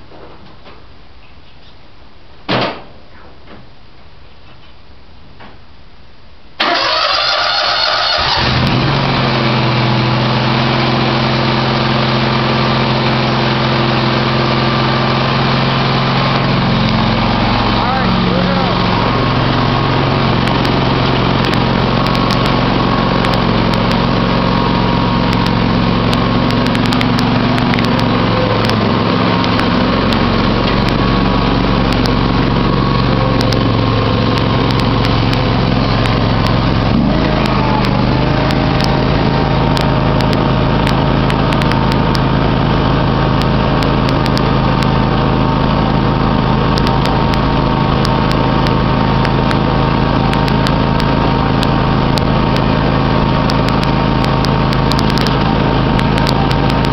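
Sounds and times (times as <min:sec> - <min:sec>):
riding mower engine running: 0:06.6 - 0:56.9.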